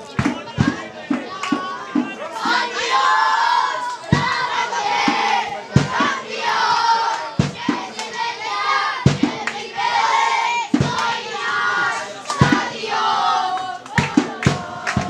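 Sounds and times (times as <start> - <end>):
crowd chanting: 0.0 - 15.0
loud beats: 0.0 - 15.0.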